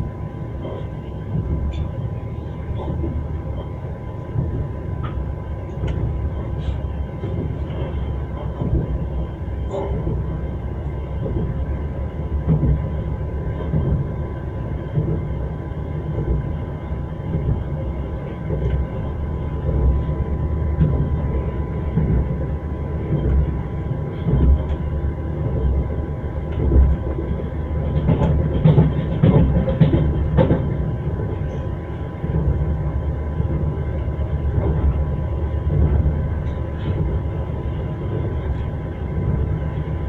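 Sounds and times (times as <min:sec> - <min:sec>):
moving train rumble: 0:00.0 - 0:40.0.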